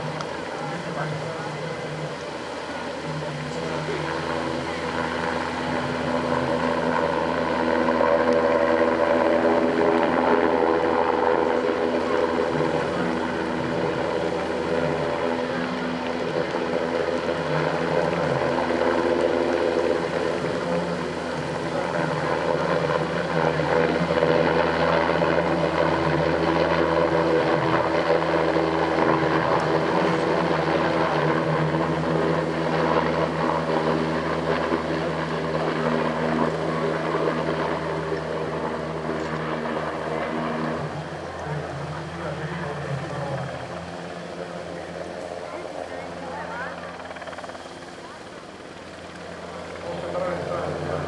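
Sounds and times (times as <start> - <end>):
helicopter rotor and turbine engines: 0.0 - 51.0.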